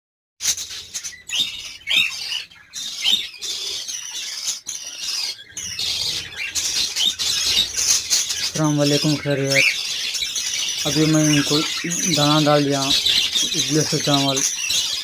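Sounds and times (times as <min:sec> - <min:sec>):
lovebirds squawking and chirping: 0:00.4 - 0:15.0.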